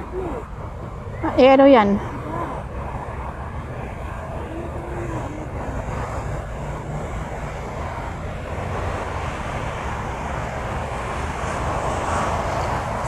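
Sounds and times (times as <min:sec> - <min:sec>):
low rumble of city noise: 0:00.0 - 0:13.0.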